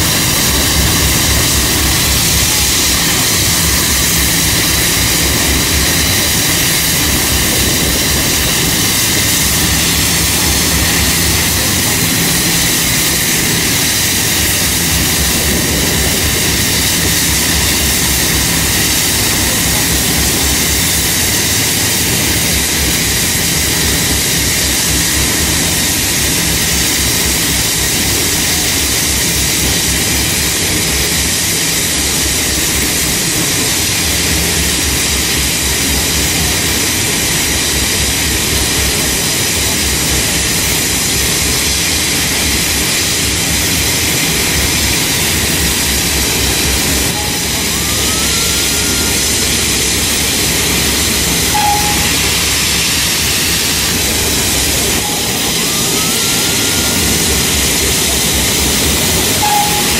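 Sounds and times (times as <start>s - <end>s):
steam locomotive blowing off steam: 0.0s - 59.9s.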